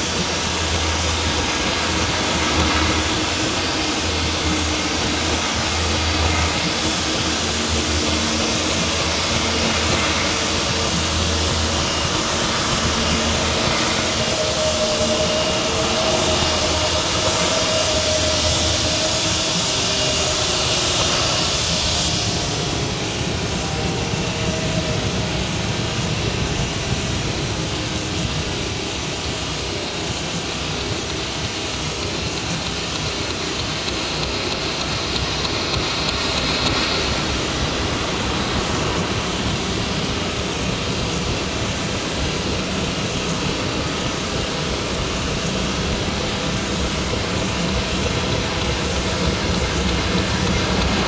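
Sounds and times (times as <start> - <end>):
low hum: 0.0 - 51.0
rumbling hissing noise music: 0.0 - 51.0.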